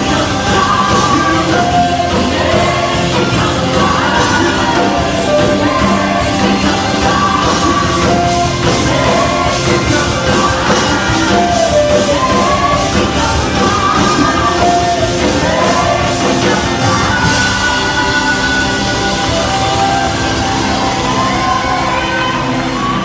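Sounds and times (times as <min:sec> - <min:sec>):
drums steady beat: 0:00.0 - 0:22.0
rock band playing: 0:00.0 - 0:23.0.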